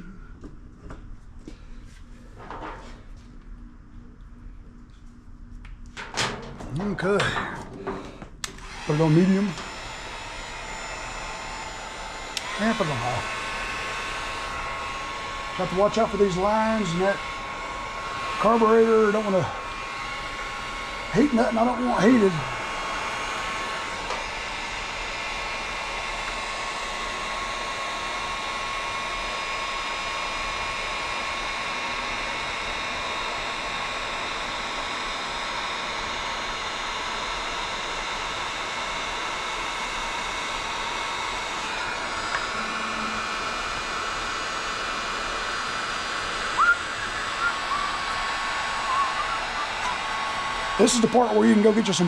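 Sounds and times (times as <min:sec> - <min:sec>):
heat gun blowing air: 0:07.9 - 0:52.0.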